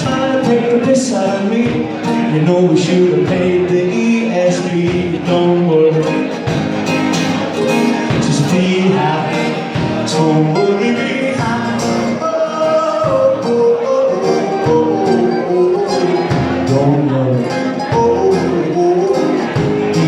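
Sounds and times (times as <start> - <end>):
person singing: 0.0 - 6.6, 7.4 - 20.0
guitar: 0.0 - 20.0.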